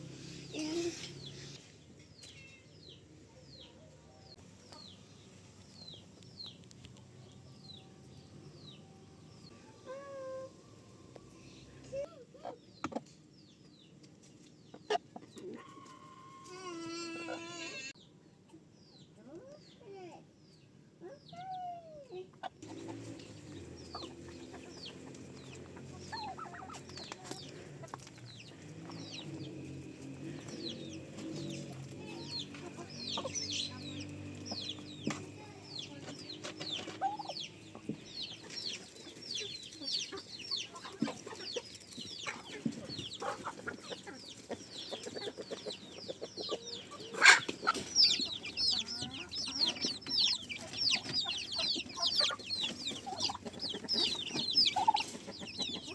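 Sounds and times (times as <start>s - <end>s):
chickens clucking: 0.0s - 19.8s, 20.5s - 55.9s
chicks cheeping: 0.1s - 55.9s.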